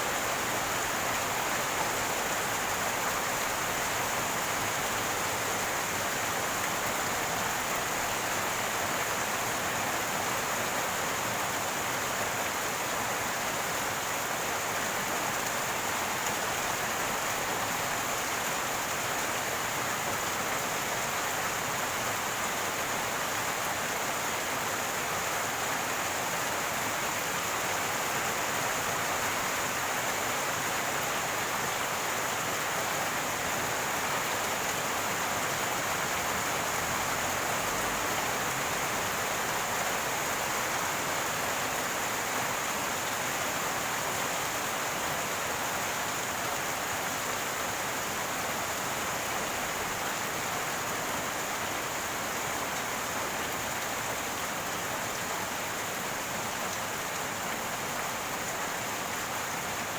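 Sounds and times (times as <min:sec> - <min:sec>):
rainwater running and gurgling: 0:00.0 - 0:59.9.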